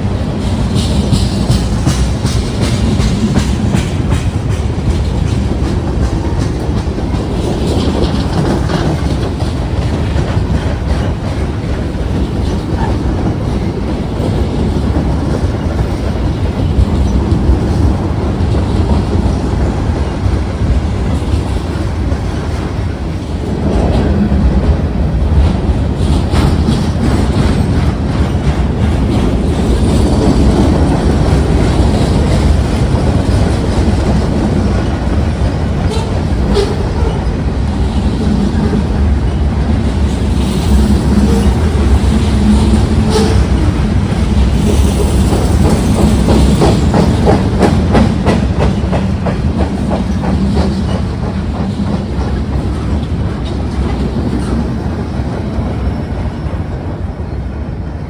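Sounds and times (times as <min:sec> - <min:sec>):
train wheels rumbling: 0:00.0 - 0:58.0
wheels clicking over rail joints: 0:00.4 - 0:54.7.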